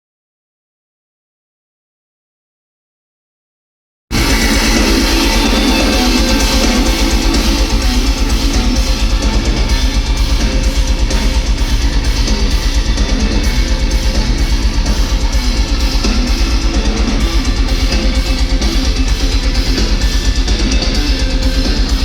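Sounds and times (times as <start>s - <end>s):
distorted electric guitars: 4.1s - 22.0s
drum kit fast beat: 4.1s - 22.0s.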